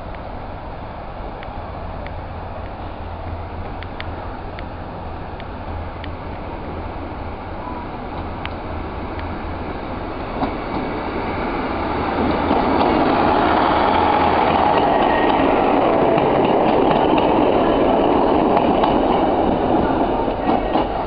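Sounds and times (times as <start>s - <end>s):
diesel train engine humming: 0.0s - 21.0s.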